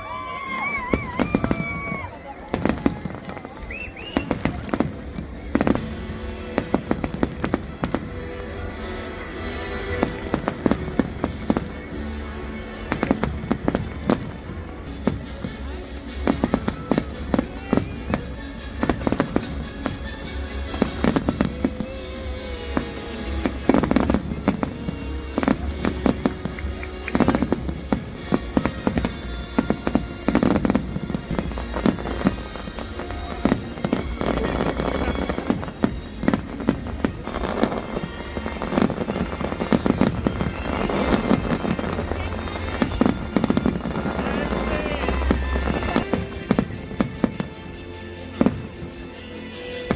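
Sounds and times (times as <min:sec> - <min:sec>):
fireworks exploding: 0:00.0 - 0:49.9
music: 0:00.0 - 0:49.9.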